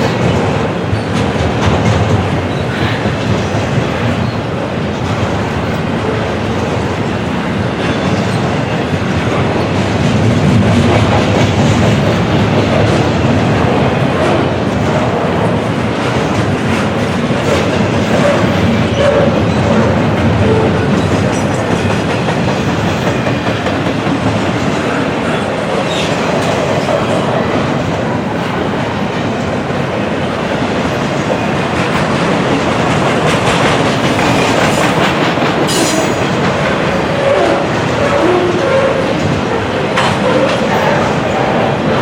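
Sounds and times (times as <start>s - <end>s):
train wheels clacking over rail joints: 0.0s - 42.0s.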